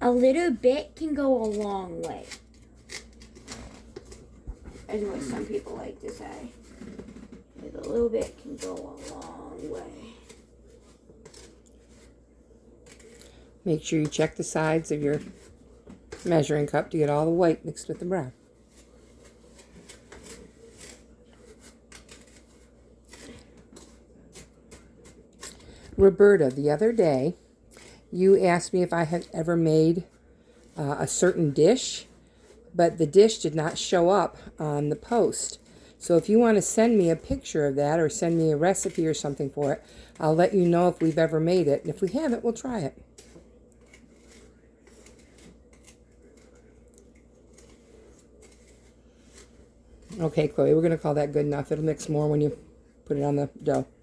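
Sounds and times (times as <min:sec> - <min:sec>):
spoon scraping dry sugar: 0:00.0 - 0:54.0.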